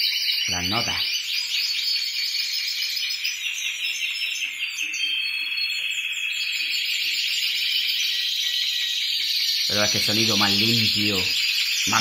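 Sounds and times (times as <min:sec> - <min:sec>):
canaries singing trills: 0:00.0 - 0:12.0.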